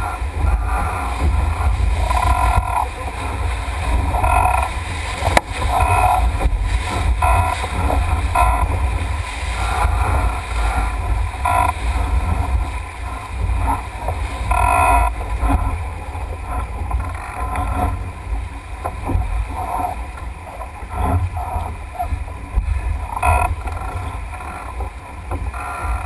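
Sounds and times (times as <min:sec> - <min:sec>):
water splashing along hull: 0:00.0 - 0:26.0
wind buffeting microphone: 0:00.0 - 0:26.0.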